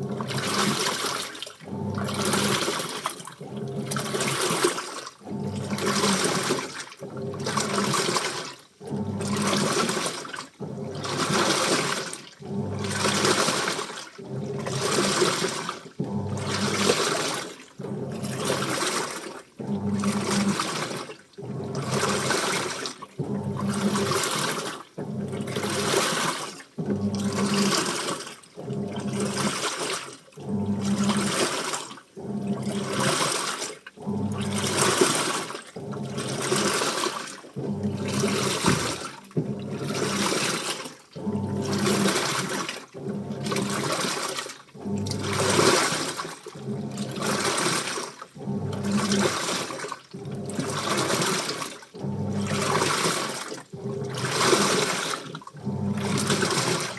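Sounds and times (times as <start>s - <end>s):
washing machine motor hum: 0.0s - 56.9s
washing machine sloshing water: 0.0s - 56.9s.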